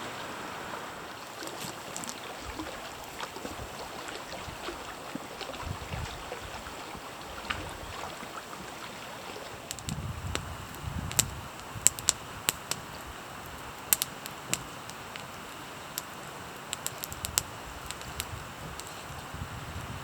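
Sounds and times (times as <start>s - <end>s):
faint steady hiss: 0.0s - 20.0s
campfire crackling and popping: 1.0s - 20.0s.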